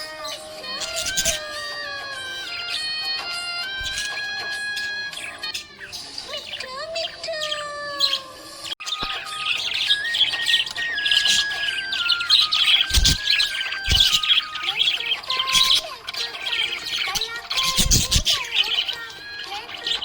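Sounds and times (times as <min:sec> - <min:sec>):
budgerigars chirping: 0:00.0 - 0:20.0.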